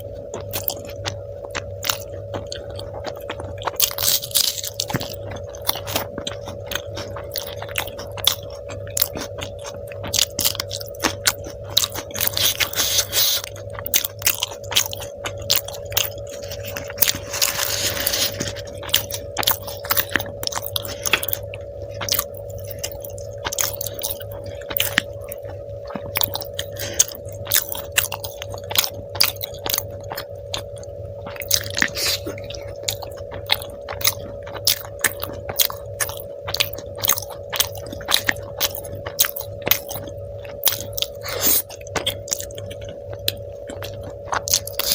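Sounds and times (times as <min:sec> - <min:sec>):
person chewing food: 0:00.0 - 0:44.9
steady hum: 0:00.0 - 0:44.9.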